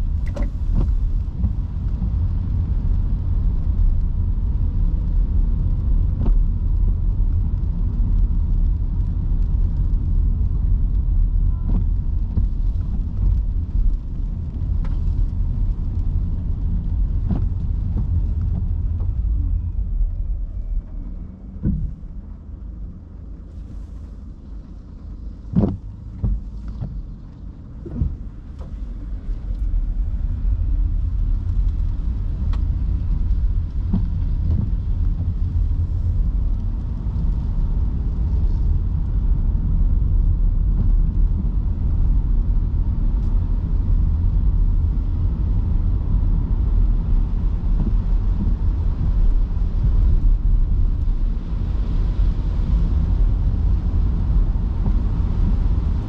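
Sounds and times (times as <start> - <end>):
tyre noise on wet road: 0.0 - 56.0.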